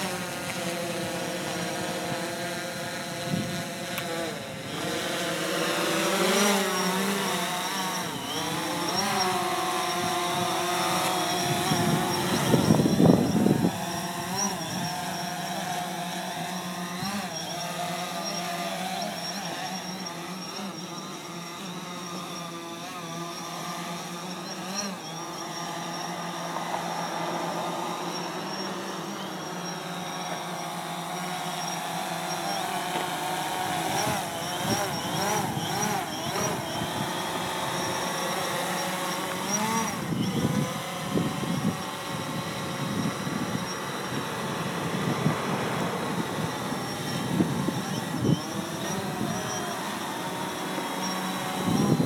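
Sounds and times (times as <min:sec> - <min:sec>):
drone propellers whining: 0:00.0 - 0:52.0.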